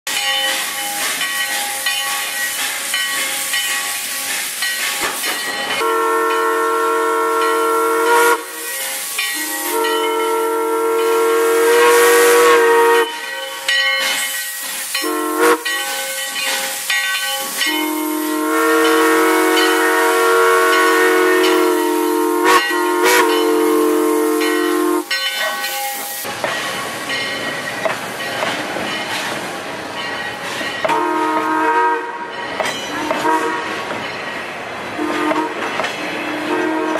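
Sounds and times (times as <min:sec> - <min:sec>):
steam hissing: 0:00.1 - 0:36.9
train rumbling past: 0:00.1 - 0:36.9.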